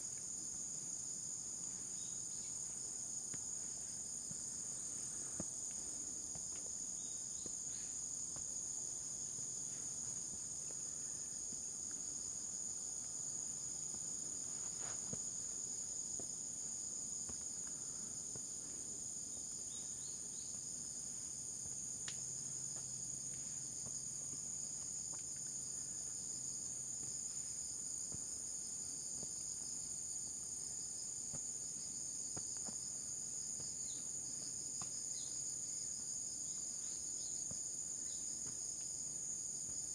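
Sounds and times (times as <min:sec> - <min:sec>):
high-pitched insect chorus: 0:00.1 - 0:39.9.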